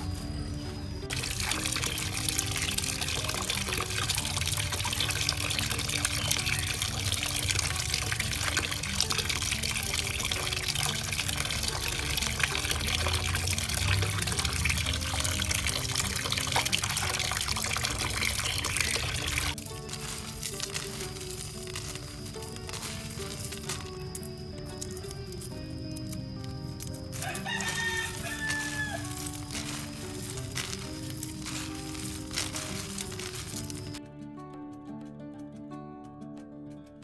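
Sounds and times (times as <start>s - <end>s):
background music: 0.0s - 37.0s
water running and splashing: 1.1s - 26.1s, 26.8s - 34.0s.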